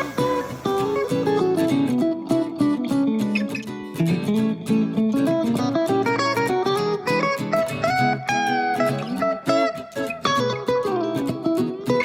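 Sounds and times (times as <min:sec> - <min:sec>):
plucked acoustic guitar melody: 0:00.0 - 0:12.0.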